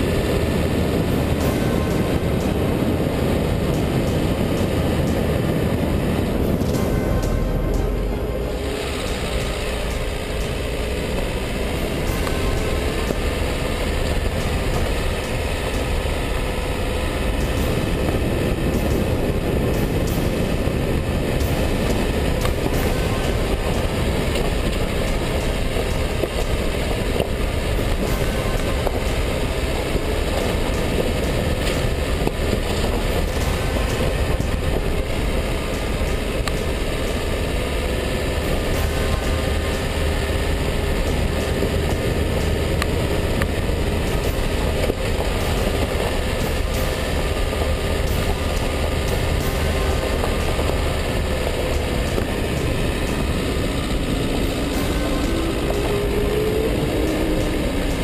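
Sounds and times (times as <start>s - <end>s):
car engine and road noise: 0.0s - 58.0s
sharp clicks and knocks: 0.0s - 58.0s.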